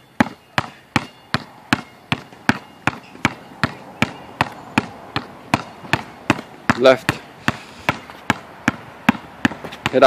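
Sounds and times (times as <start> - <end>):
basketball bouncing on hard court: 0.2 - 10.0.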